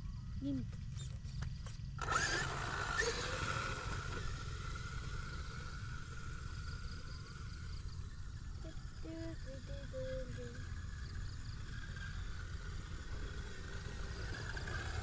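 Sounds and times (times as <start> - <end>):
electric motor high whine: 2.0 - 15.0.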